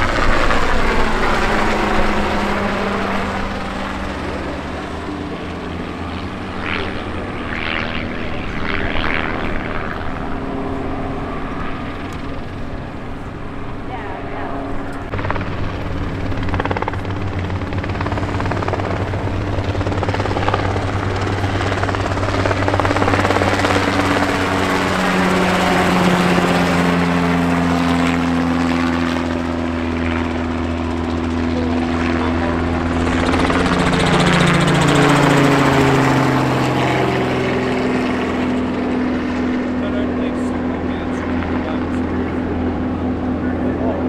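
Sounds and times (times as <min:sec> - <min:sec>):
helicopters flying past: 0:00.0 - 0:44.0.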